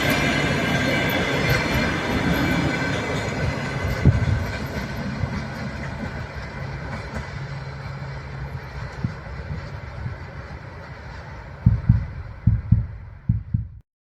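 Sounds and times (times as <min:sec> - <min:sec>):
passenger train passing: 0:00.0 - 0:13.3.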